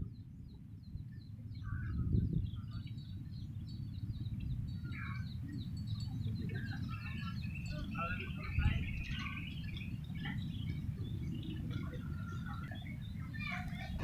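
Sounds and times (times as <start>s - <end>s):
small birds chirping: 0.0s - 14.0s
low bird calls: 1.2s - 14.0s.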